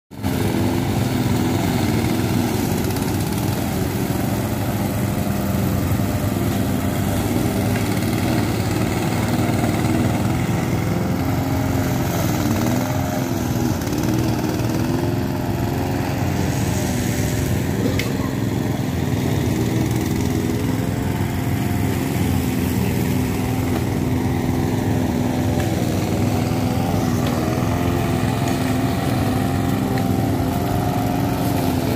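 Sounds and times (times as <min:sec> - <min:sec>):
lawn mower engine running: 0:00.1 - 0:31.9.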